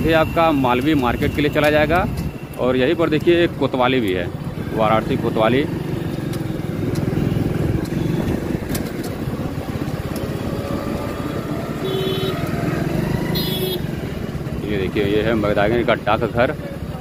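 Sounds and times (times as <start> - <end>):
motorcycle engine running: 0.0 - 17.0
road and traffic noise: 0.0 - 17.0.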